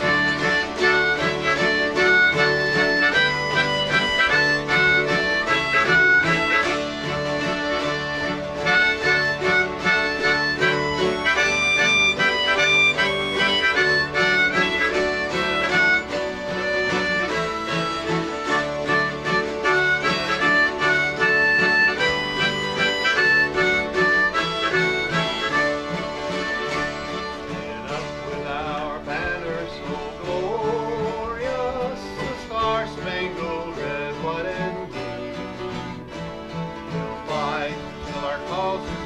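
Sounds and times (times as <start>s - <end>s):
harmonica melody: 0.0s - 39.0s
strummed guitar and dulcimers: 0.0s - 39.0s.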